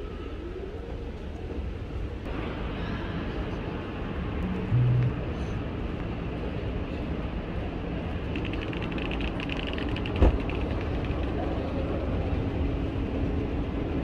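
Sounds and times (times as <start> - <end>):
underground station rumble: 0.0 - 14.0.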